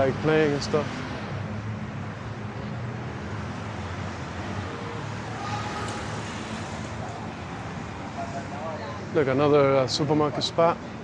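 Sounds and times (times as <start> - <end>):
hum of road traffic: 0.0 - 11.0.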